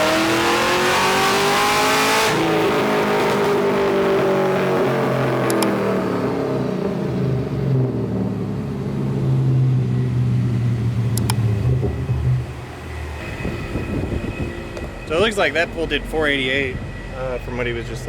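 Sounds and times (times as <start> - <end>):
car engine revving down: 0.0 - 16.8.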